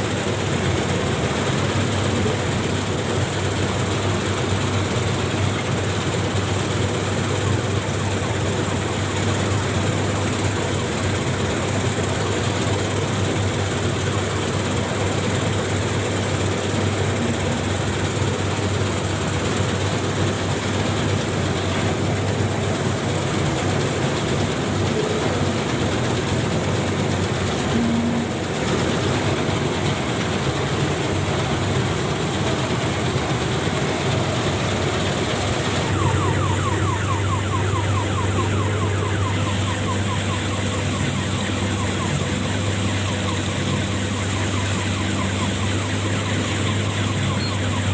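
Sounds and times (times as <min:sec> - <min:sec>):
combine harvester running: 0:00.0 - 0:47.9.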